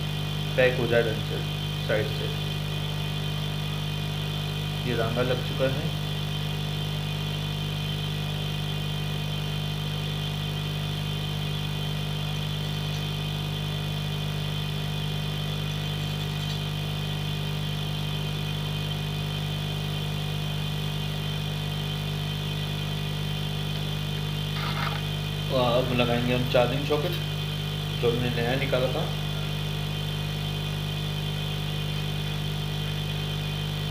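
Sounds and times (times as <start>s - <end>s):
electrical equipment hum: 0.0s - 33.9s.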